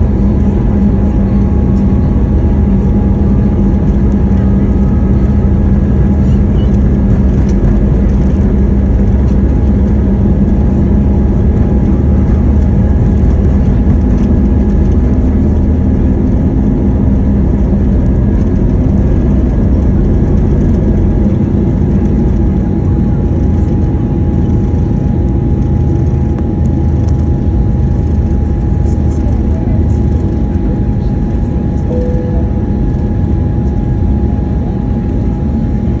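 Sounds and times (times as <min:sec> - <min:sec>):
jet engines rumbling and whining: 0:00.0 - 0:36.0.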